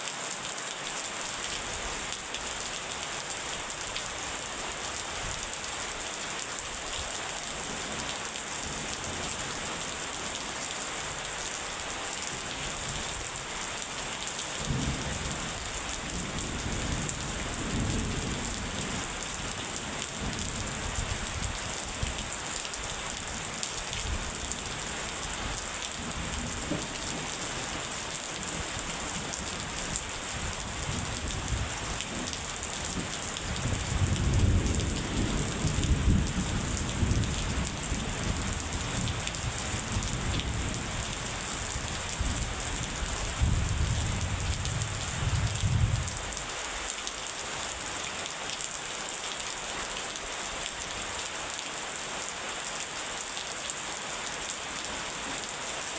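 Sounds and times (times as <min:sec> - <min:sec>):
steady rain hissing: 0:00.0 - 0:55.9.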